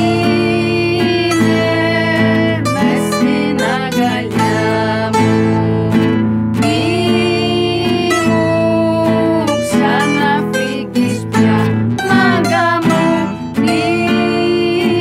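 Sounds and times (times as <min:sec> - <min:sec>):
bouzouki plucked melody: 0:00.0 - 0:15.0.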